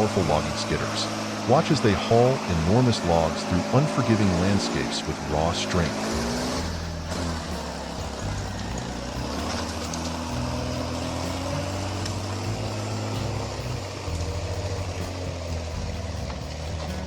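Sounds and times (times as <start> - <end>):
skidder engine under load: 0.0 - 17.0.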